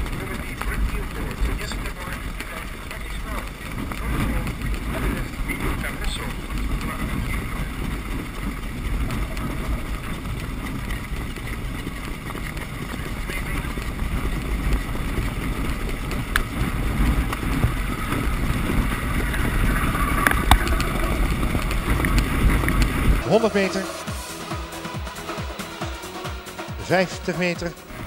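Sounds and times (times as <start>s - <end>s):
wind rumbling on camera: 0.0s - 23.2s.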